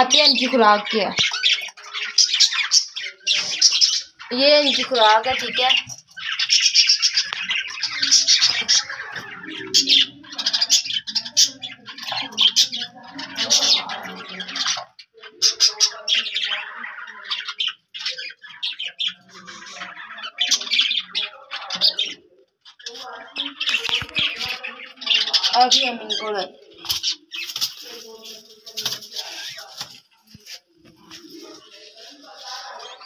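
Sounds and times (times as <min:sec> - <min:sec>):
birds chirping and squawking: 0:00.0 - 0:33.0.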